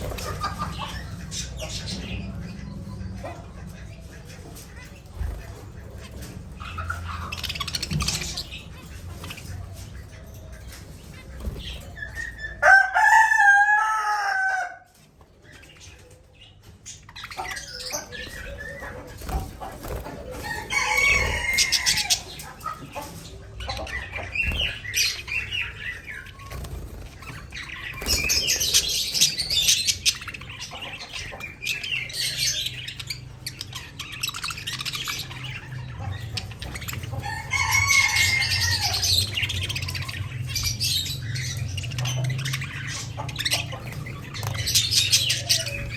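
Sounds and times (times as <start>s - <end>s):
budgerigars chirping and chattering: 0.0s - 45.9s.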